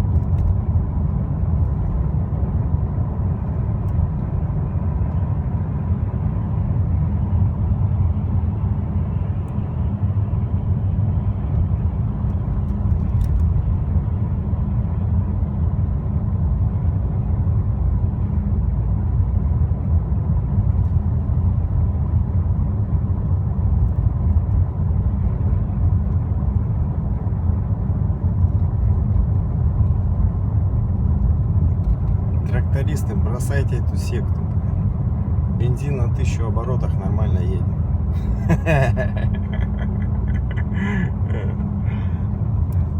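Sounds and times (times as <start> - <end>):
vehicle engine low rumble: 0.0 - 42.9.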